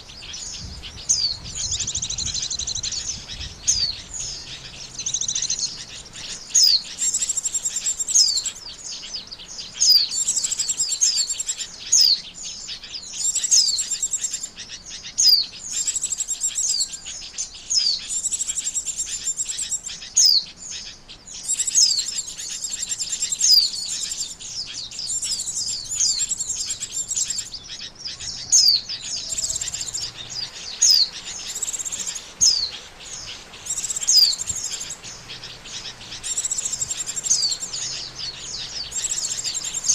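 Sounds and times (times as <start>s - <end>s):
bird high chirping phrases: 0.0s - 39.9s.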